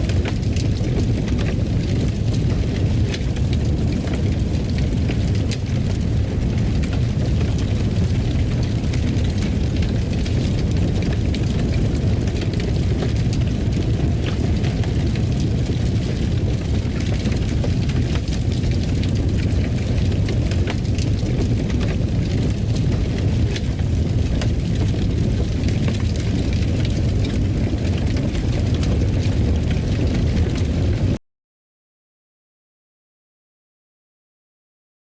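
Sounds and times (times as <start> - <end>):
wood fire crackling and popping: 0.0 - 31.2.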